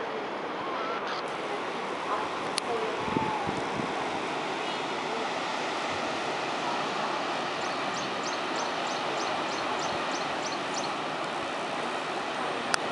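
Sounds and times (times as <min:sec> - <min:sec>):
surf breaking on shore: 0:00.0 - 0:12.9.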